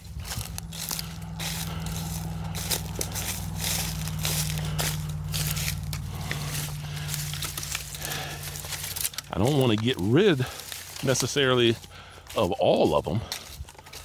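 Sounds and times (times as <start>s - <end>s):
steady low hum: 0.0s - 12.3s
twigs and leaves crackling: 0.0s - 14.0s.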